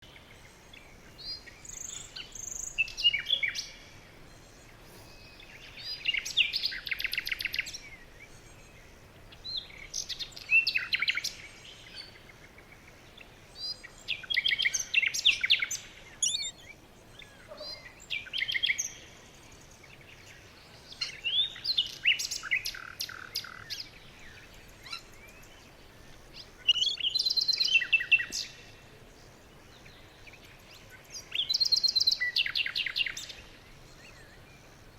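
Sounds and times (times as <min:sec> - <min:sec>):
songbird chirping and trilling: 0:00.0 - 0:34.9.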